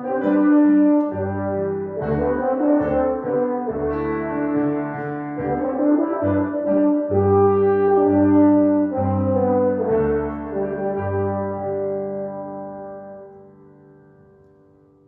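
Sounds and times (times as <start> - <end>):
slow brass-like chords: 0.0 - 13.8
bass notes: 0.0 - 14.5.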